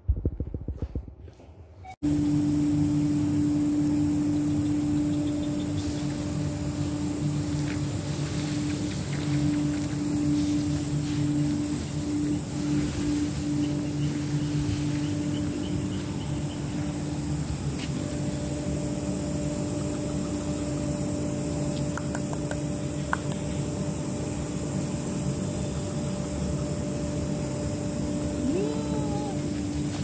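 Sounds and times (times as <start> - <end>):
motor humming: 2.0 - 30.0.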